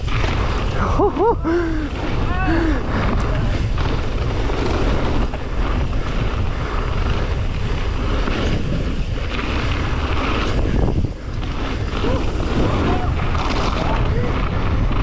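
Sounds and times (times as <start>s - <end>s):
tyres rolling over gravel: 0.0s - 15.0s
wind buffeting microphone: 0.0s - 15.0s.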